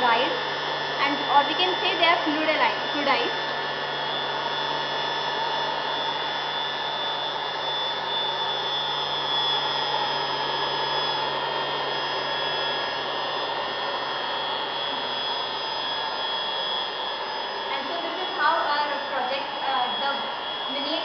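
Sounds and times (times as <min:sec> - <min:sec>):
air blower motor whine: 0:00.0 - 0:21.0.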